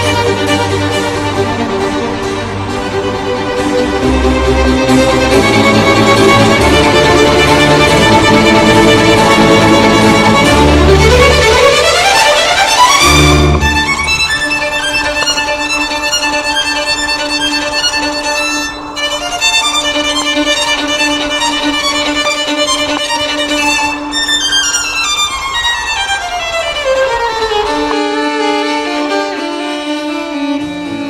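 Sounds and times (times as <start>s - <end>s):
string-like background music: 0.0s - 31.0s.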